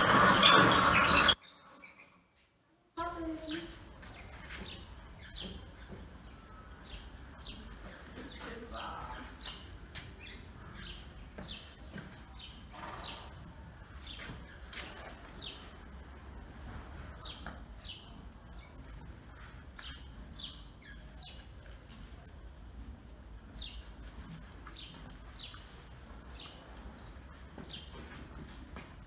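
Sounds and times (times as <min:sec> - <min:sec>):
small birds chirping: 0:00.4 - 0:22.3, 0:23.4 - 0:28.6.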